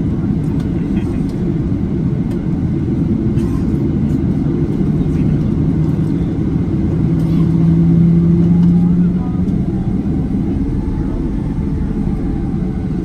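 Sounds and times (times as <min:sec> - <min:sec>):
jet airliner rumble: 0:00.0 - 0:13.0
low hum: 0:00.0 - 0:13.0.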